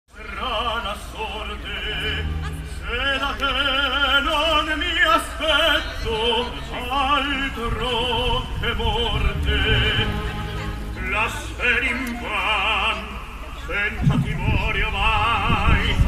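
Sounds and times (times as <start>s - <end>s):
low steady hum: 0.1s - 16.0s
operatic singing with vibrato: 0.1s - 16.0s.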